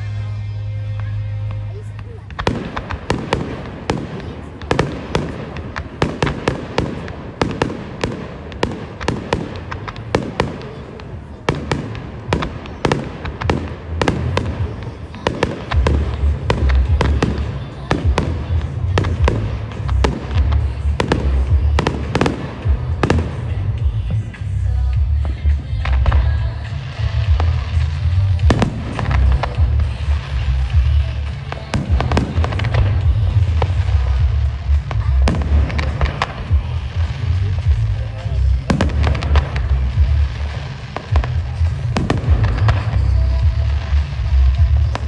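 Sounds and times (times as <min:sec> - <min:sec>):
music with heavy bass: 0:00.0 - 0:05.4, 0:11.5 - 0:45.0
fireworks bangs and crackling: 0:00.0 - 0:45.0.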